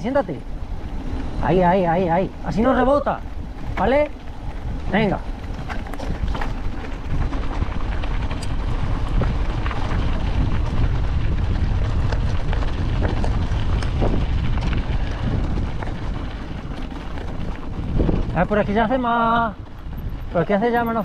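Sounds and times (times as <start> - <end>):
wind rumble on microphone: 0.0 - 21.0
bike clicks and rattles: 0.1 - 21.0
tyre noise on rough ground: 0.5 - 21.0.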